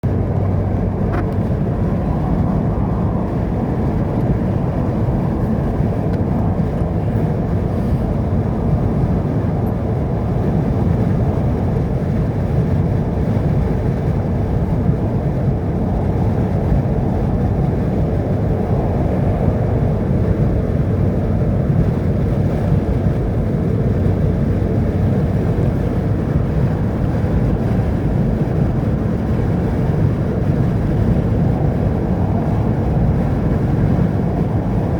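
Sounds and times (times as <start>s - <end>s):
vehicle rumbling on road: 0.0s - 34.9s.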